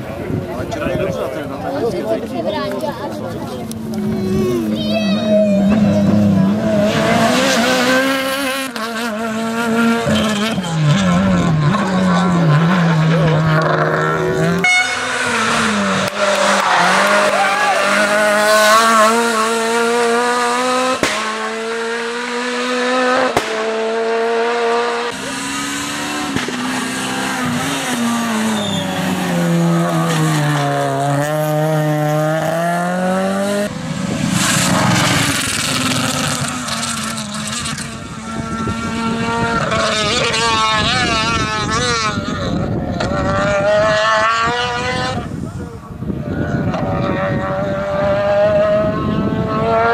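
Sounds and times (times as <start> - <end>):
rally car engine at full throttle: 0.0 - 49.9
tyre and road noise: 0.0 - 49.9.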